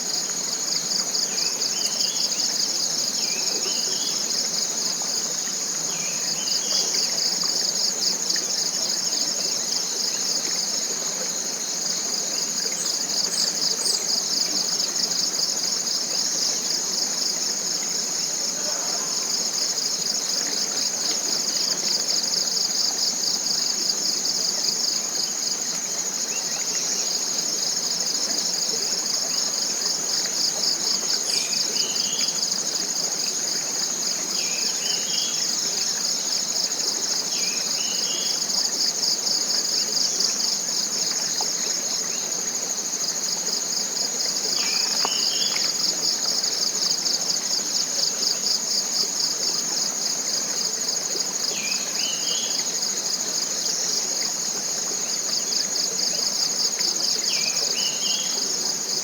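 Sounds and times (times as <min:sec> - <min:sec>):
forest insects droning: 0:00.0 - 0:59.0.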